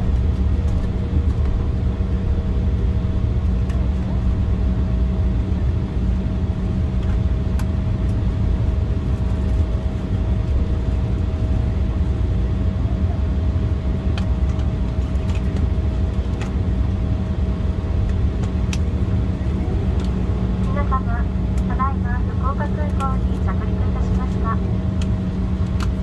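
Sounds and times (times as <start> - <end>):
constant hum tones: 0.0 - 26.0
jet cabin rumble: 0.0 - 26.0.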